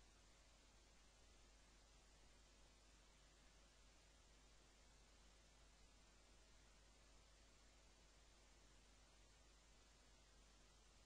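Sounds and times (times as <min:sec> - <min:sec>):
recording noise hiss: 0:00.0 - 0:11.0.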